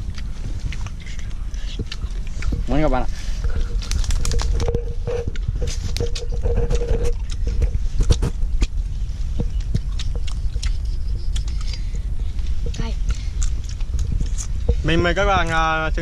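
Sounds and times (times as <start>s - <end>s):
chewing and crunching: 0.0s - 16.0s
low rumble: 0.0s - 16.0s.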